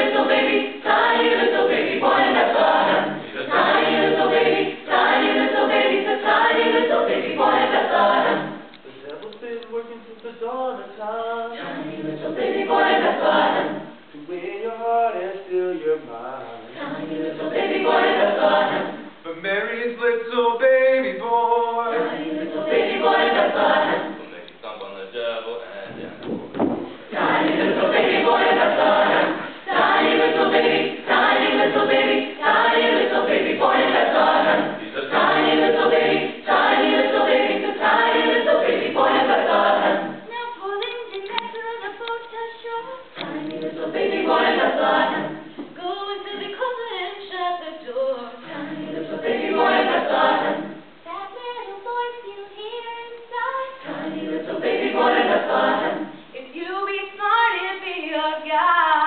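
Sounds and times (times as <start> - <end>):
choir singing a cappella: 0.0 - 24.5, 27.0 - 59.0.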